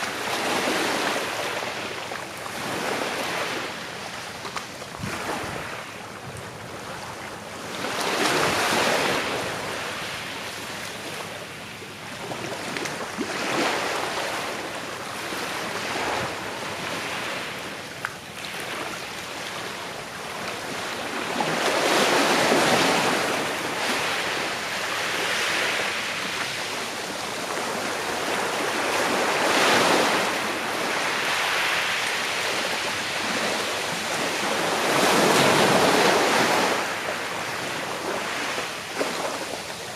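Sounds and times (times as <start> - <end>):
small waves breaking on shore: 0.0 - 39.9.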